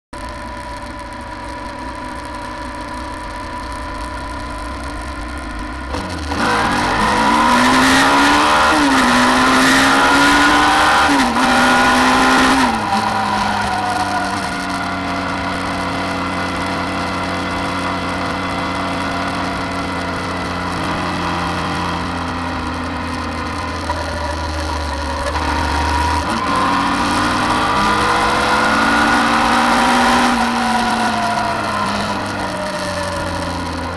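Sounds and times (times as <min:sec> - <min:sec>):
motorcycle engine accelerating: 0:00.2 - 0:33.9.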